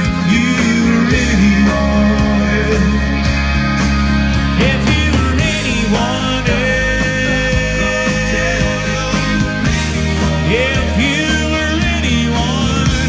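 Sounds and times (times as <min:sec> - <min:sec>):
electric guitar bending notes: 0:00.0 - 0:13.0
live country band instrumental: 0:00.0 - 0:13.0.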